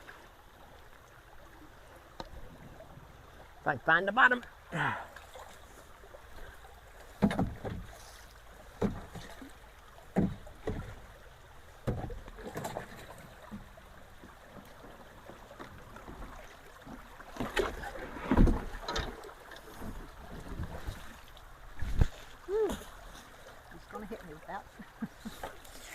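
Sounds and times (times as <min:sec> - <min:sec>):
water splashing and sloshing: 0:00.0 - 0:25.9.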